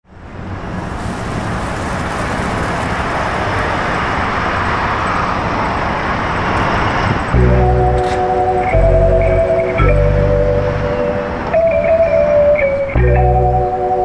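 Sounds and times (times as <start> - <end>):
passing cars: 0.1 - 14.0.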